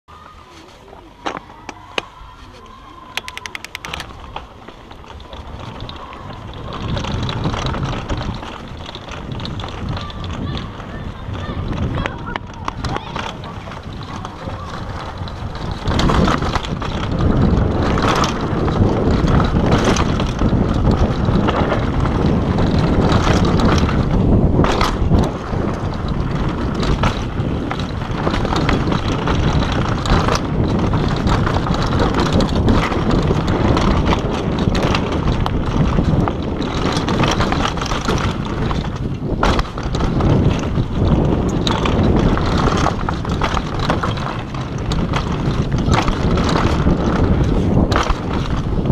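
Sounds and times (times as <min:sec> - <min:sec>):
tyres rumbling on dirt: 0:00.1 - 0:48.9
bike rattling and knocking: 0:00.2 - 0:48.9
wind rush on microphone: 0:02.1 - 0:48.9.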